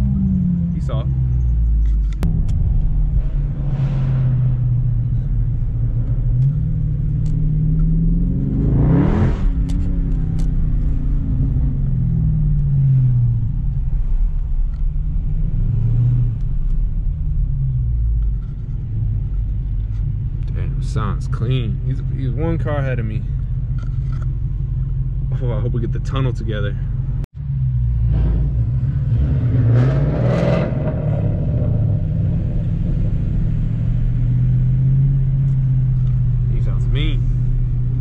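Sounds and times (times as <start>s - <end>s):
cars driving in traffic: 0.0s - 38.0s.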